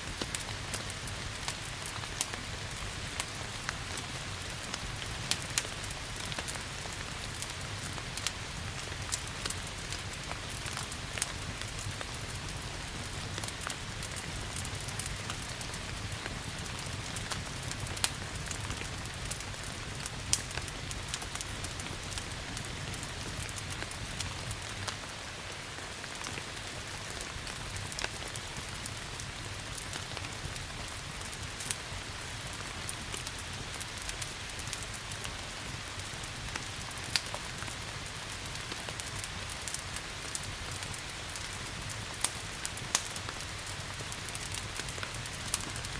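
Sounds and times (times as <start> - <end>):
rain hiss: 0.0 - 45.9
wood fire popping and cracking: 0.0 - 45.9.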